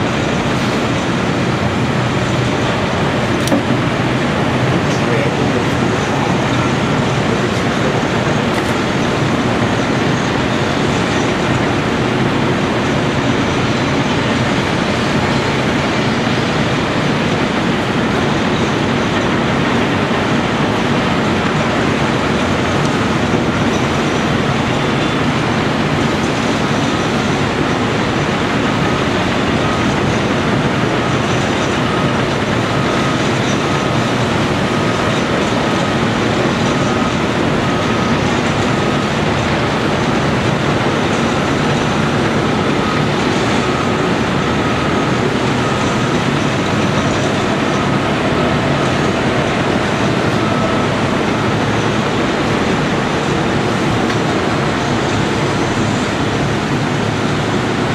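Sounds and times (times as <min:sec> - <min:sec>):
diesel engine rumbling: 0:00.0 - 0:57.9.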